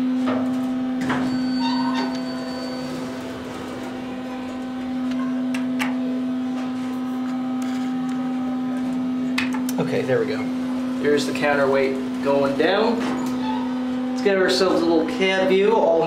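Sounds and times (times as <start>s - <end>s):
elevator pump motor hum: 0.0s - 16.0s.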